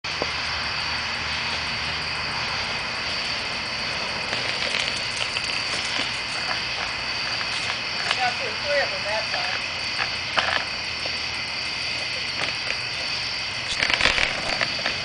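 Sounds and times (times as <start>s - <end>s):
longboard wheels rolling on pavement: 0.0s - 15.0s.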